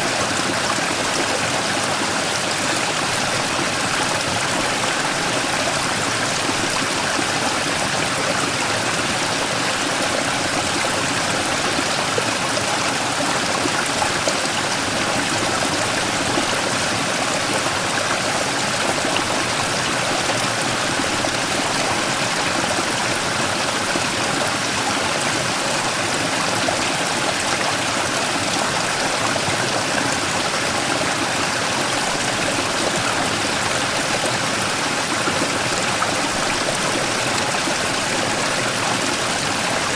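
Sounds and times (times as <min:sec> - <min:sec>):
stream rushing over rock: 0:00.0 - 0:39.9.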